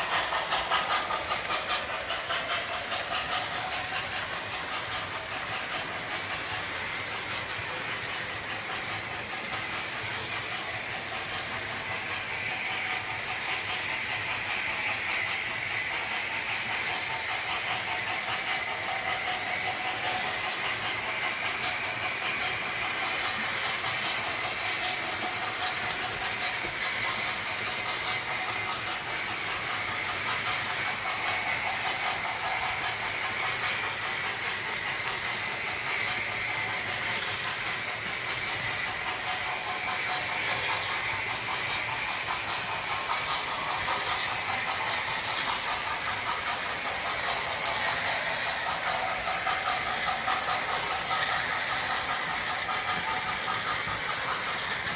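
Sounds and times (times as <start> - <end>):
constant running noise: 0.0 - 54.9.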